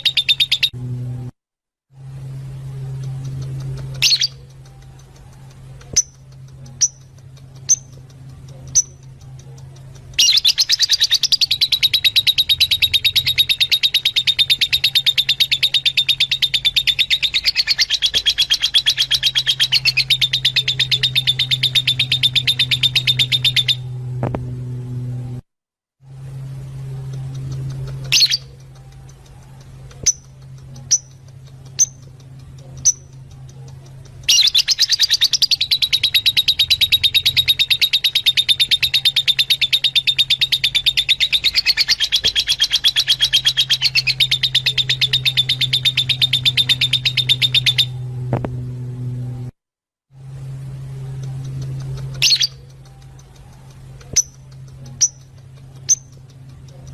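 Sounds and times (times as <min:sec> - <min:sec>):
steady low hum: 0:00.0 - 0:56.9
lovebirds chirping and chattering: 0:02.8 - 0:23.8, 0:27.0 - 0:48.0, 0:51.0 - 0:56.9.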